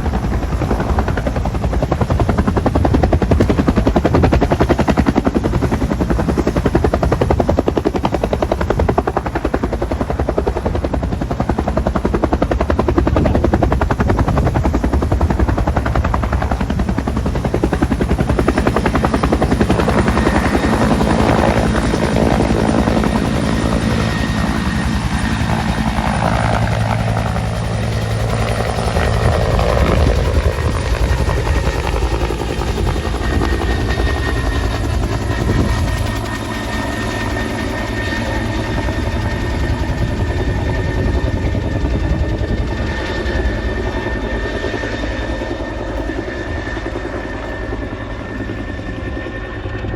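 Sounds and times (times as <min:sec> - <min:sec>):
helicopter rotor and turbine whine: 0:00.0 - 0:49.9.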